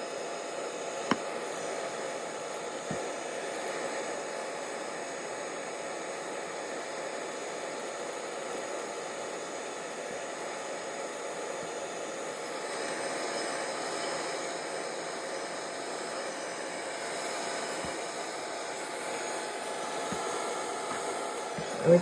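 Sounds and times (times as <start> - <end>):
hot-air blower hissing: 0.0 - 22.0.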